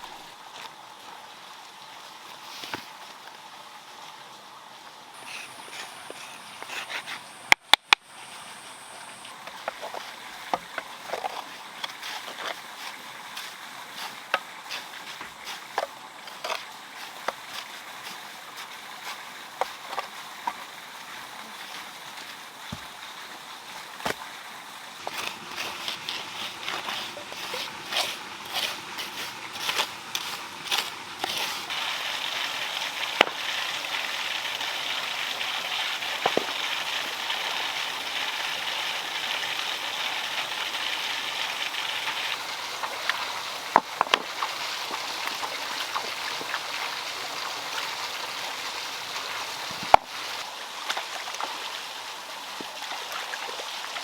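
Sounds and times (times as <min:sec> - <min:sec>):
water running and splashing: 0:00.0 - 0:03.4, 0:05.2 - 0:54.0.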